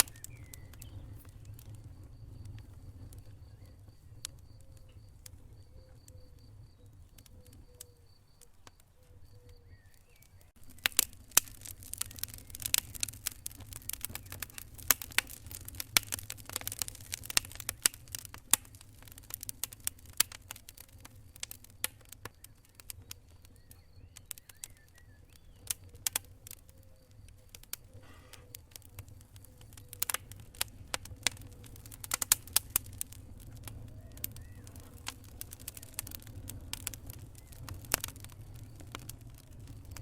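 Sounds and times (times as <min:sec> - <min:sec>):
faint chirping: 0:00.0 - 0:40.0
sharp pops and snaps: 0:00.0 - 0:40.0
wood fire crackling: 0:00.0 - 0:40.0.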